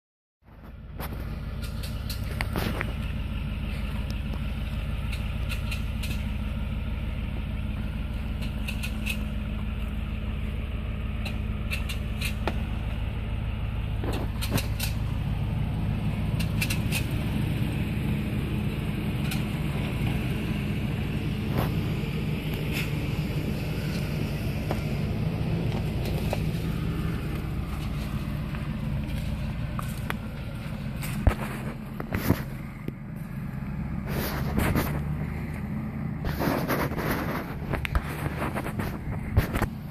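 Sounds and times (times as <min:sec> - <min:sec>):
vehicle engine droning: 0:00.4 - 0:39.9.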